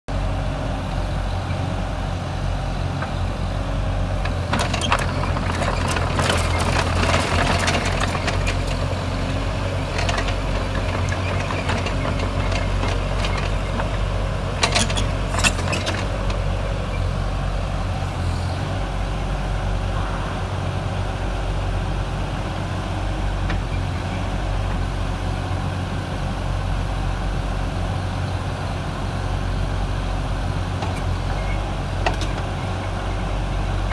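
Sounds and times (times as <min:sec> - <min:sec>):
excavator diesel engine idling: 0:00.1 - 0:33.9
engine clatter: 0:02.5 - 0:33.9.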